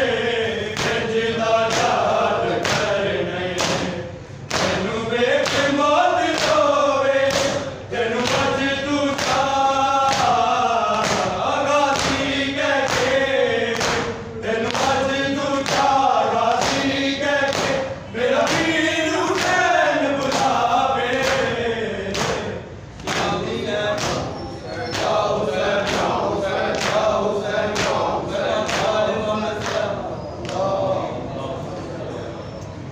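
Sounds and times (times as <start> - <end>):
men chanting: 0.0 - 32.0.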